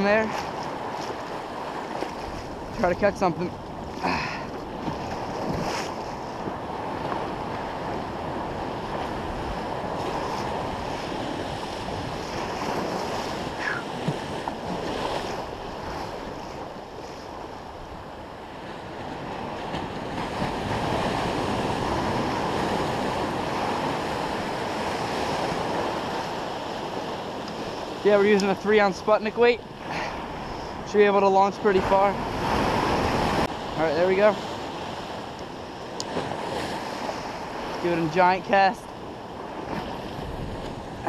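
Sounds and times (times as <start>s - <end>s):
wind buffeting microphone: 0.0s - 38.2s, 38.8s - 41.0s
ocean surf breaking: 0.0s - 41.0s.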